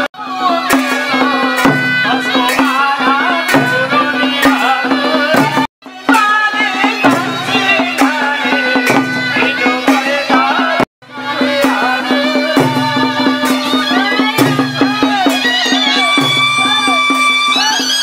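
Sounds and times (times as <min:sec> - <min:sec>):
folk music with drum beat: 0:00.0 - 0:18.0.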